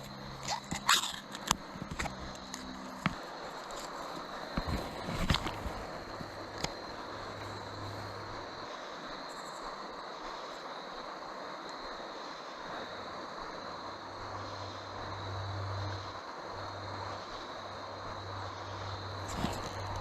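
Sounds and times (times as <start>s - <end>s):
river flowing over rocks: 0.0s - 20.0s.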